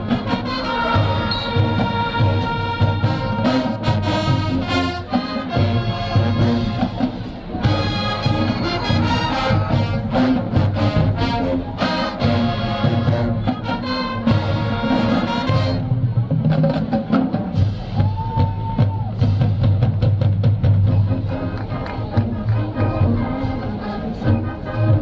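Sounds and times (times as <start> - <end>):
brass horns: 0.0 - 18.0, 20.6 - 25.0
steady drum beat: 0.0 - 21.2.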